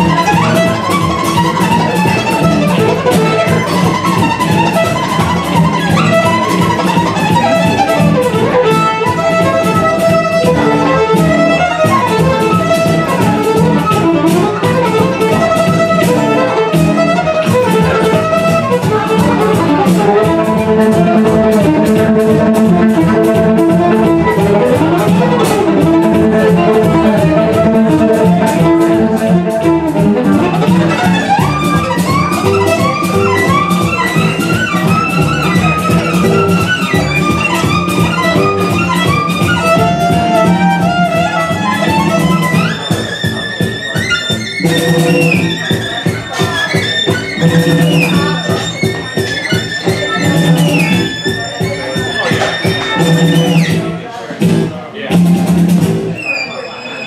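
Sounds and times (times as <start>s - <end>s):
violin playing fast tune: 0.0s - 54.2s, 55.9s - 57.0s
low plucked accompaniment: 0.0s - 56.4s.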